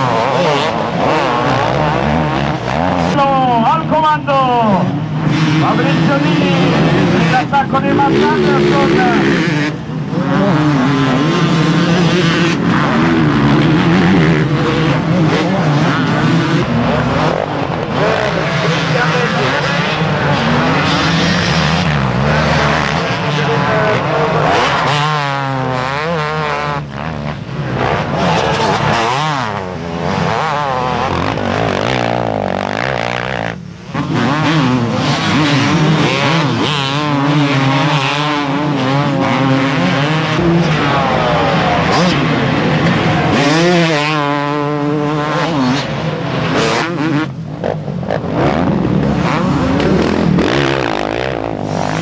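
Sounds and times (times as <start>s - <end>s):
motocross bikes revving: 0.0s - 52.0s.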